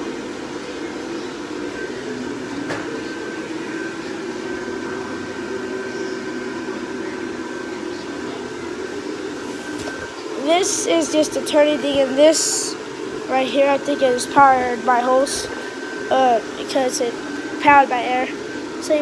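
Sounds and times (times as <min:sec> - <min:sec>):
blower fan whirring hum: 0:00.0 - 0:19.0.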